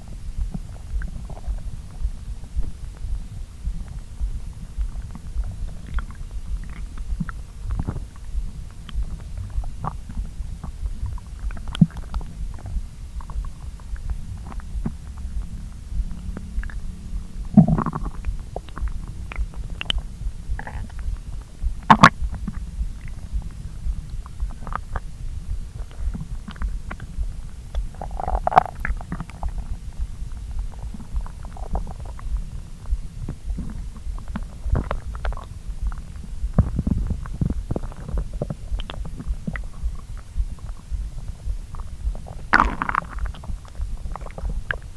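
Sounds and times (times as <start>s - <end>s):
stomach gurgling: 0.0s - 44.9s.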